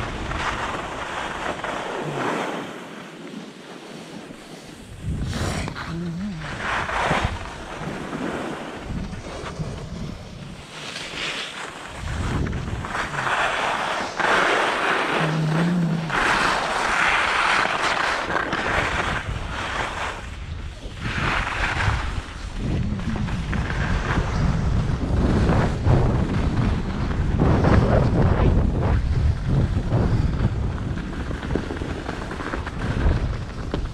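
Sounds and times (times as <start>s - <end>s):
skis carving on packed snow: 0.0s - 33.9s
wind buffeting microphone: 4.6s - 10.8s, 11.8s - 33.9s.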